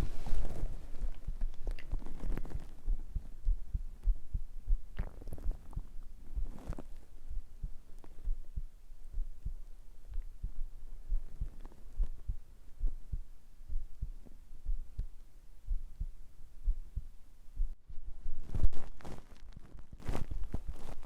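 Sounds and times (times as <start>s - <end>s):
heartbeat-like low thumps: 0.0s - 18.9s.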